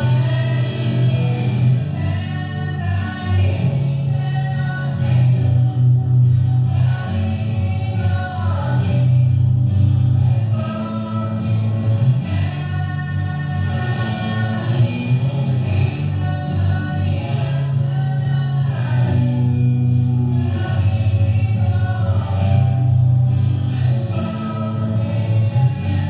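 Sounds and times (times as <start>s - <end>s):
low bass line: 0.0s - 26.0s
person singing: 0.0s - 26.0s.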